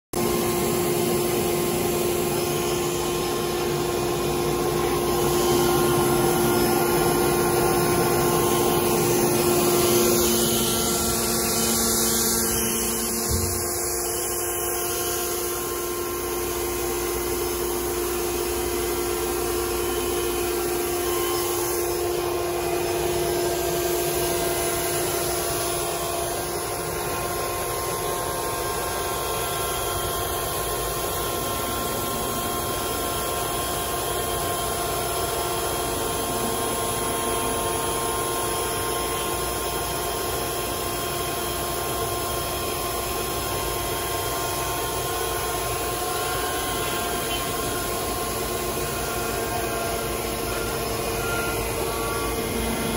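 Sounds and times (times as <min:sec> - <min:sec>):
cnc router spindle whine: 0:00.2 - 0:52.9.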